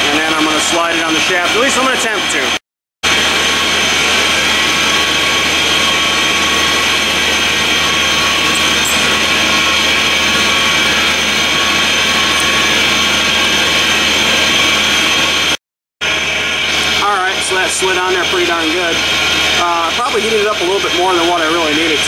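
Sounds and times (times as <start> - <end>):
whining tones: 0.0 - 20.8
industrial air compressors droning: 0.0 - 22.0.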